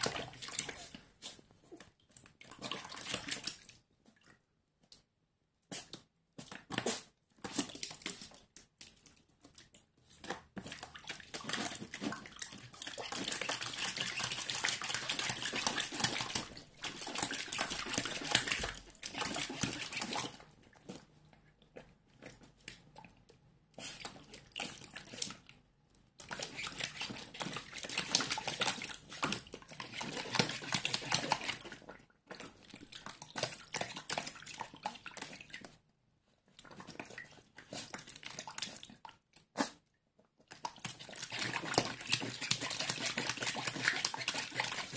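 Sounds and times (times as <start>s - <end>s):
puppy splashing water: 0.0s - 5.0s, 5.7s - 35.9s, 36.5s - 44.9s.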